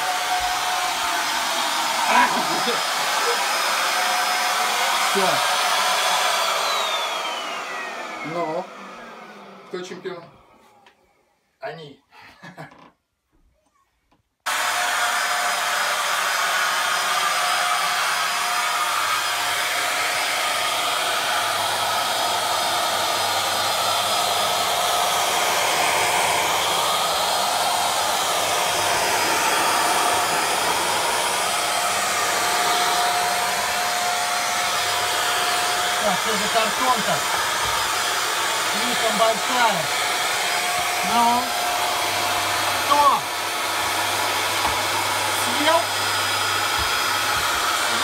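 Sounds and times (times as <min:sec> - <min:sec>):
vacuum cleaner running: 0:00.0 - 0:11.2, 0:14.5 - 0:48.0.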